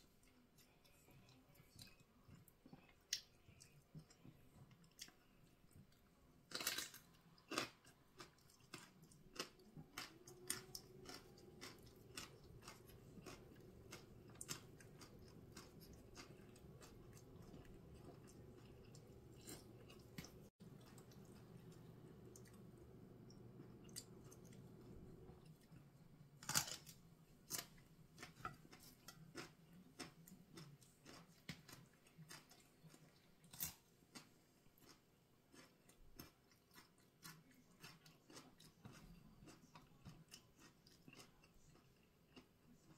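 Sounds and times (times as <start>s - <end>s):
faint chewing: 0.0s - 42.9s
faint low hum: 0.0s - 42.9s.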